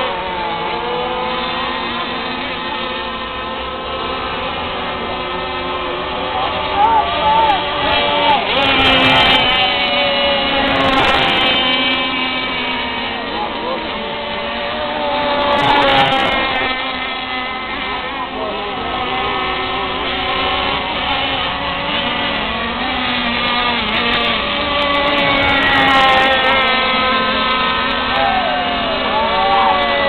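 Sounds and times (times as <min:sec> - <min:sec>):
model powerboat engines whining: 0:00.0 - 0:30.0.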